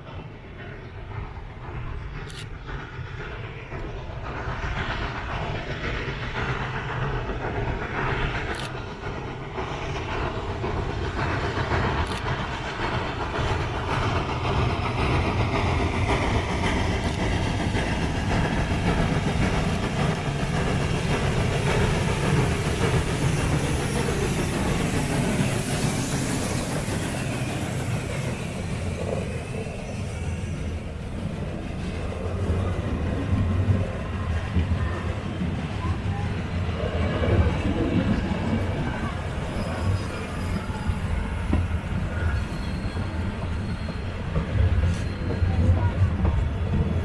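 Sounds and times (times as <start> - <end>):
steam locomotive rumbling: 0.0 - 47.0.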